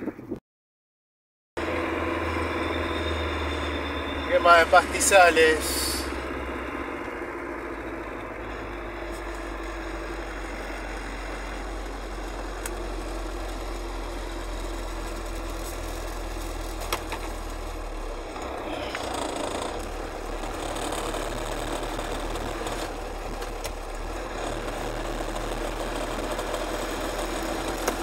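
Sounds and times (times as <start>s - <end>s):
bus engine drone: 1.6s - 28.0s
road noise: 1.6s - 28.0s.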